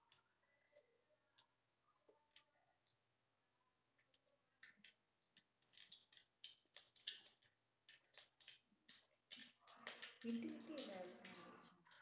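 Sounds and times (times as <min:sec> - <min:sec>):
seeds popping in hot oil: 0:00.0 - 0:03.1, 0:03.8 - 0:12.0.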